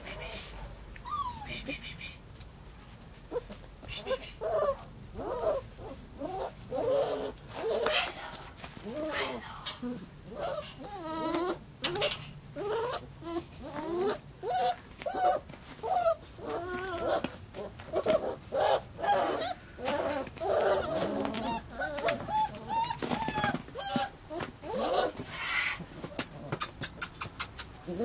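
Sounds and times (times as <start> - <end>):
puppies whining and yelping: 1.0 - 1.8, 3.3 - 8.2, 8.8 - 28.0.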